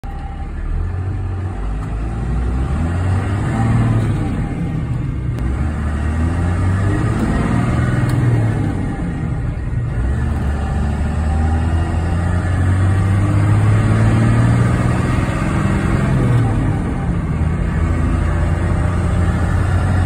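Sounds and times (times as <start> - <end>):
diesel truck engine accelerating: 0.0 - 20.0.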